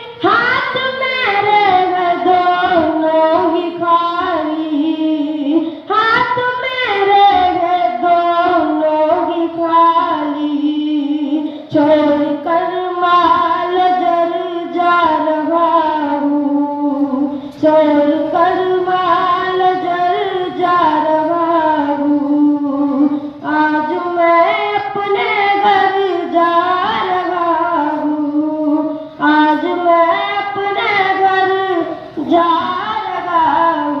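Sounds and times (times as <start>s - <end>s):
person singing devotional song: 0.0s - 34.0s.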